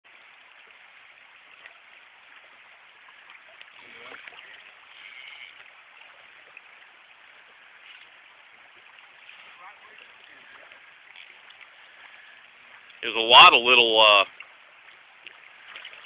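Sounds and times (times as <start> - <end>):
river current over riffles: 0.1 - 16.0.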